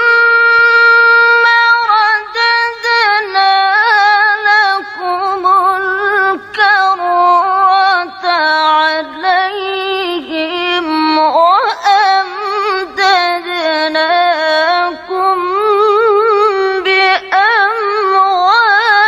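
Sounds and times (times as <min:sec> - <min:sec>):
woman reciting melodically: 0:00.0 - 0:19.0.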